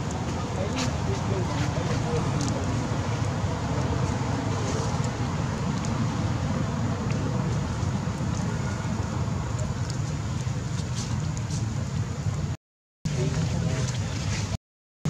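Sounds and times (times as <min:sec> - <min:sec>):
low rumbling background noise: 0:00.0 - 0:14.6.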